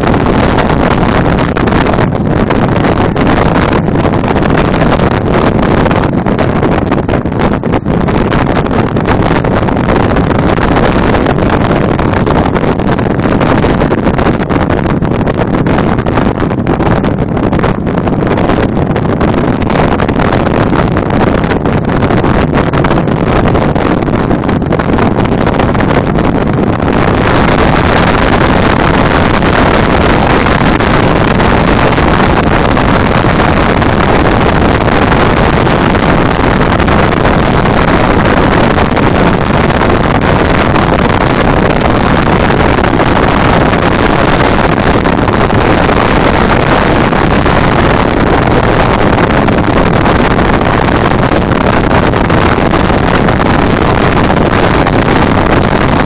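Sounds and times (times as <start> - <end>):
wind and road noise: 0.0 - 56.0
wind buffeting microphone: 0.0 - 56.0.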